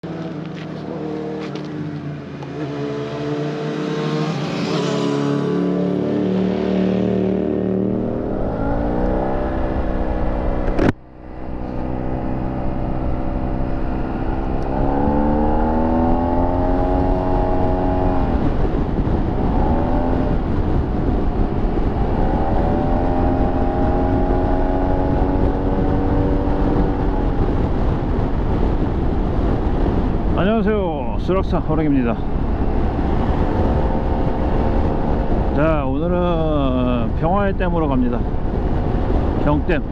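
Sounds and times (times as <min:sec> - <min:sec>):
motorcycle engine accelerating: 0:00.0 - 0:30.6, 0:31.3 - 0:37.3
road and wind noise: 0:00.0 - 0:39.9.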